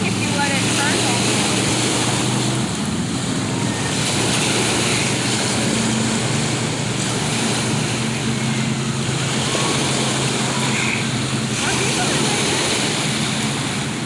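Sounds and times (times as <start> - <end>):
motorboat engine humming: 0.0 - 14.0
water noise: 0.0 - 14.0
wind: 0.0 - 14.0.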